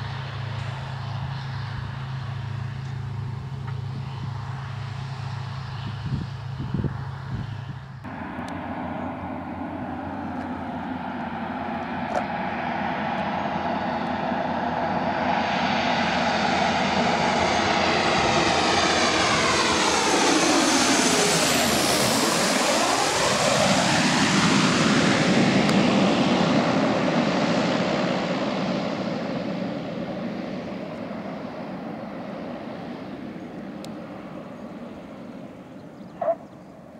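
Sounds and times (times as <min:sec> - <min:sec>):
propeller airplane flying overhead: 0:00.0 - 0:36.9.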